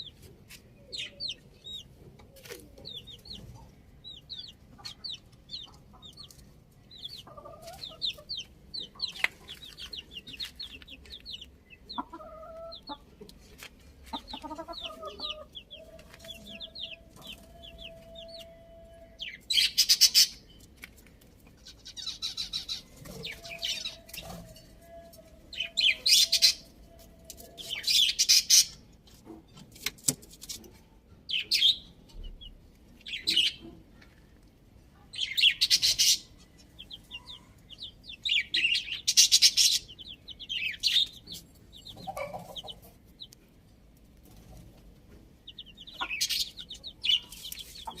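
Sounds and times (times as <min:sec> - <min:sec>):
birds chirping and twittering: 0:00.0 - 0:48.0.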